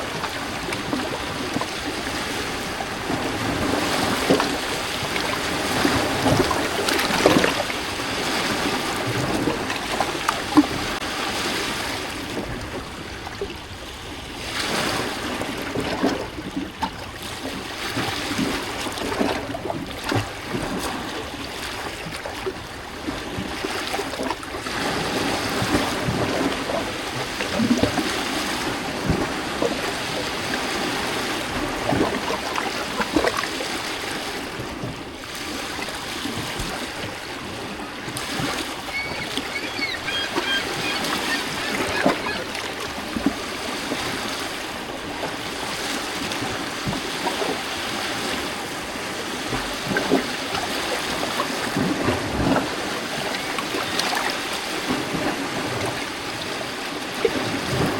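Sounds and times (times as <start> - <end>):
waves lapping against rocks: 0.0 - 57.9.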